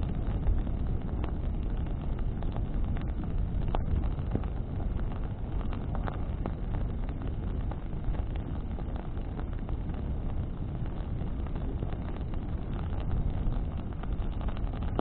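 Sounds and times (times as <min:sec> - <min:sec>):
burning wood crackling: 0:00.0 - 0:15.0
wind and flame rumble: 0:00.0 - 0:15.0.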